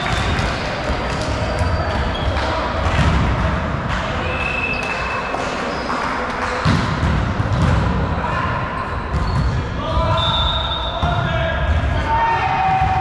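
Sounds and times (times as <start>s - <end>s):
players' voices: 0.0s - 13.0s.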